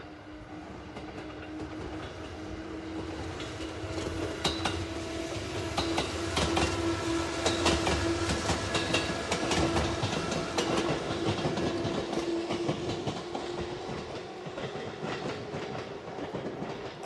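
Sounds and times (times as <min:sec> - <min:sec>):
train wheels clicking over rail joints: 0:03.0 - 0:17.0.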